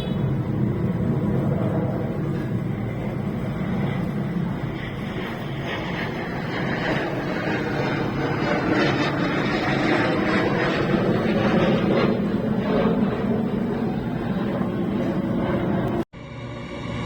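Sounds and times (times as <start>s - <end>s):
jets flying overhead: 0.0s - 17.0s.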